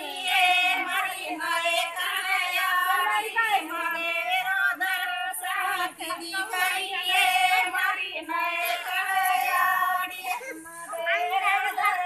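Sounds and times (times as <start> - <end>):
women singing devotional song: 0.0 - 12.0.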